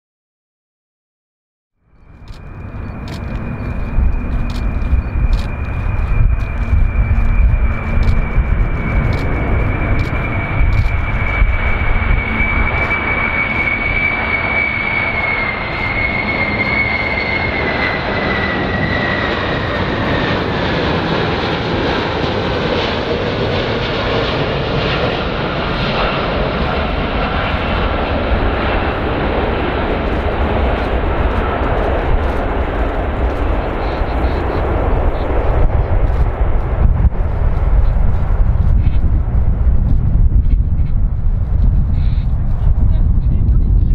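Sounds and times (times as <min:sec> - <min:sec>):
jet engines whining overhead: 0:01.9 - 0:43.9.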